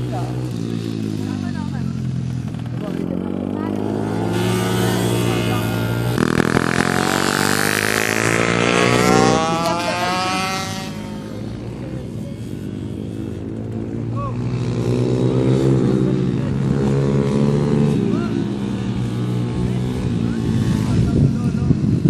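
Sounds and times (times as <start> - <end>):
pit bike engine racing past: 0.0 - 21.2.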